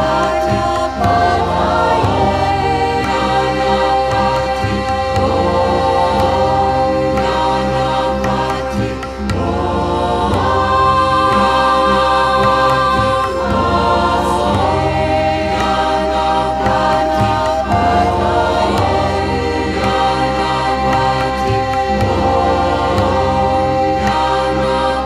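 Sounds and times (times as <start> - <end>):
choir singing long held notes: 0.0 - 25.0
steady low drone: 0.0 - 25.0.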